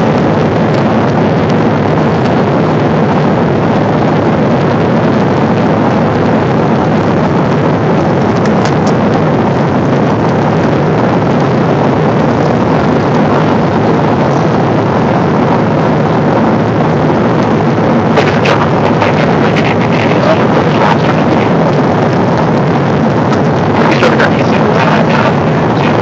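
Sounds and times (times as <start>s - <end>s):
airplane cabin engine hiss: 0.0s - 26.0s.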